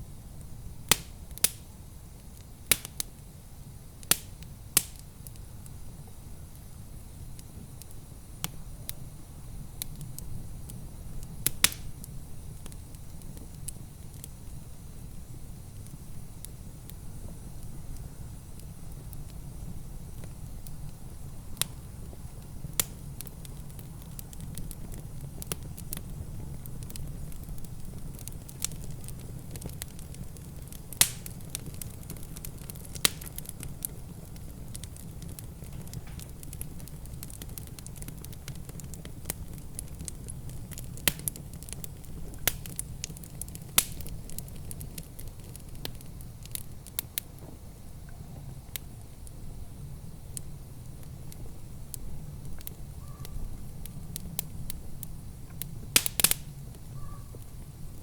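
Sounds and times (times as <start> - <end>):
wood fire crackling and popping: 0.2 - 58.0.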